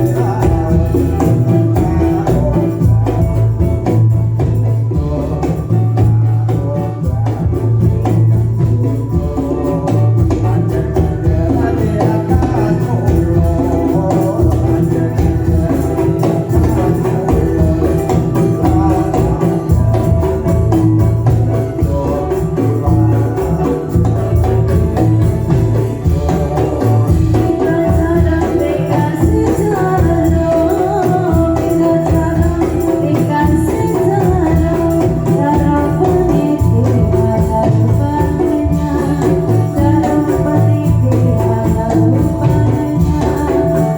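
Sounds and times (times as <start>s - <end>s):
jingling tambourine: 0.0s - 43.9s
steady drum beat: 0.0s - 43.9s.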